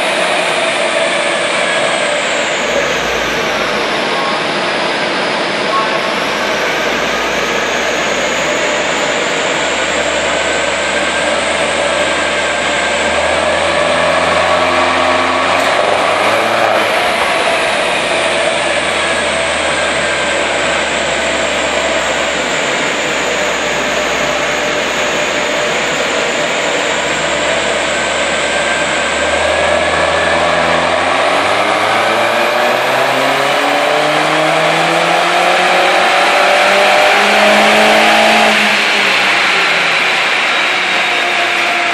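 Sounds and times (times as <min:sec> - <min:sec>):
car engine revving under load: 0:00.0 - 0:41.8
loud rushing noise: 0:00.0 - 0:41.9.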